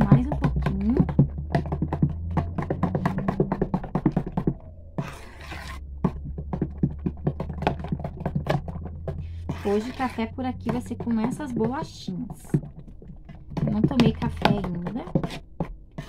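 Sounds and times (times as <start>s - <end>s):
fork beating batter in metal basin: 0.0s - 16.0s.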